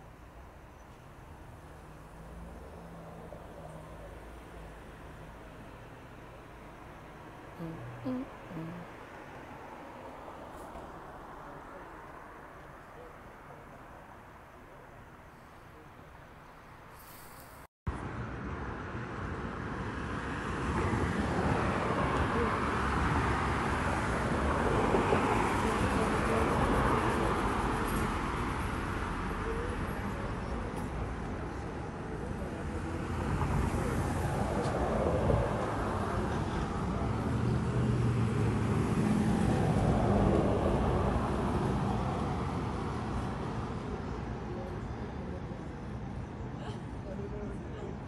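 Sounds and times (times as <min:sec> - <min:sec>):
street traffic rumble and hiss: 0:00.0 - 0:48.0.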